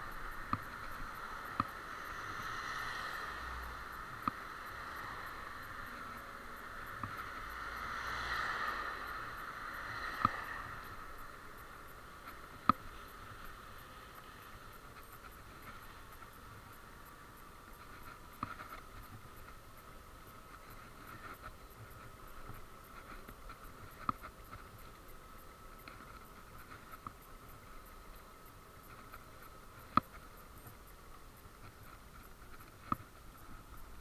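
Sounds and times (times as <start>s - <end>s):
electric scooter riding noise: 0.0s - 34.0s.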